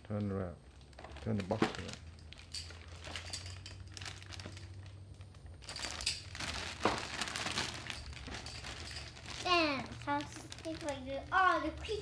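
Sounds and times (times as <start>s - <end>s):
plastic bag crinkling: 0.7s - 12.0s.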